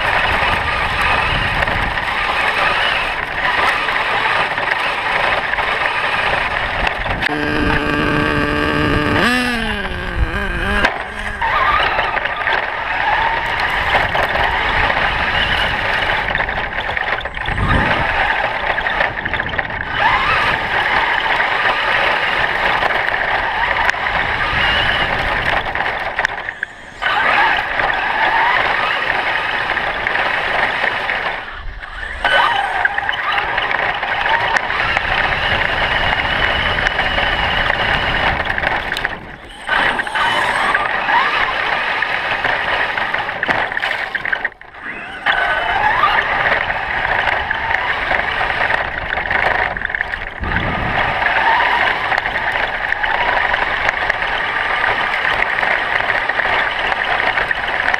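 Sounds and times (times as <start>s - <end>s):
tyre and wind noise: 0.0s - 57.9s
electric motor and gear whine: 0.1s - 57.9s.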